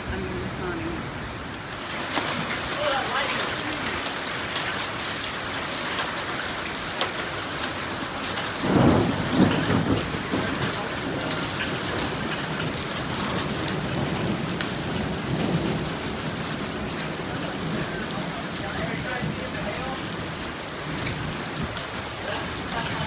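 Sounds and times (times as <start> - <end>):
heavy rain falling: 0.0 - 23.0
thunder rumble: 0.0 - 23.0.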